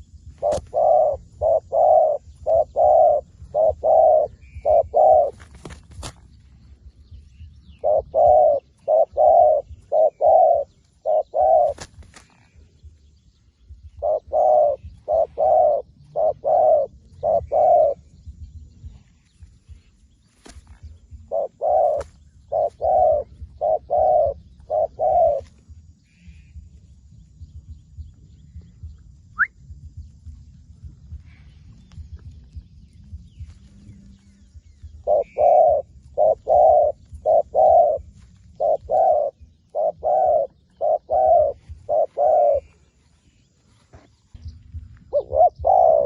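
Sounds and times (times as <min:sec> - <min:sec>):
dove cooing: 0:00.0 - 0:06.1, 0:07.1 - 0:19.7, 0:20.8 - 0:26.7, 0:32.5 - 0:46.0.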